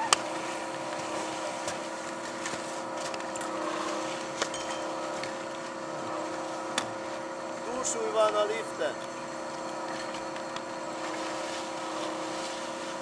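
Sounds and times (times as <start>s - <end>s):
lift machinery humming: 0.0s - 13.0s.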